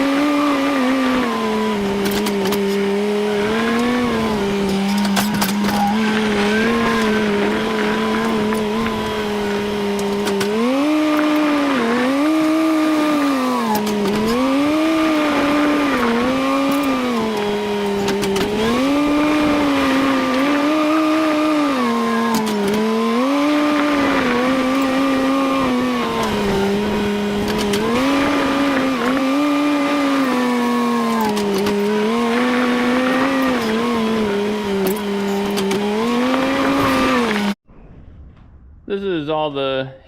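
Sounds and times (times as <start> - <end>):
engine speeding up and slowing down: 0.0 - 38.6.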